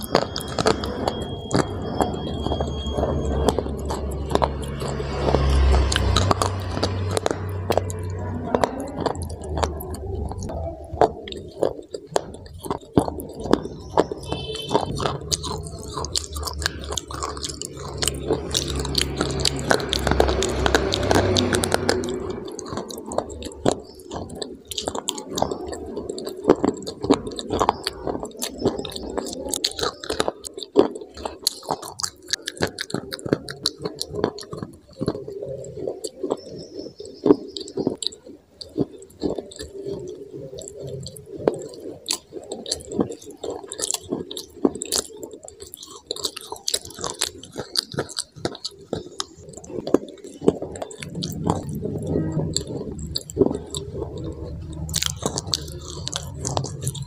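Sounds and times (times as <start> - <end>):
chewing hard sticks crunching: 0.0 - 57.0.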